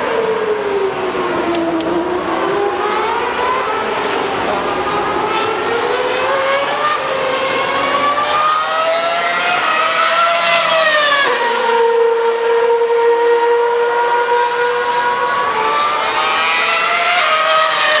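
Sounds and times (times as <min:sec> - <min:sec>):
racing car engine at high revs: 0:00.0 - 0:18.0.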